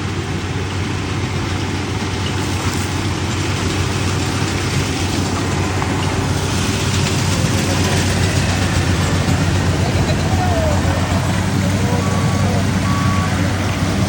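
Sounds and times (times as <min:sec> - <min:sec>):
diesel engine humming: 0:00.0 - 0:14.0
harvester machine clatter: 0:00.0 - 0:14.0.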